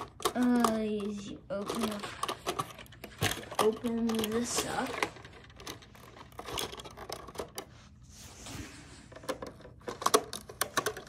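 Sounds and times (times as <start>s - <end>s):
plastic toy clicking and knocking: 0.0s - 7.7s, 9.1s - 11.0s.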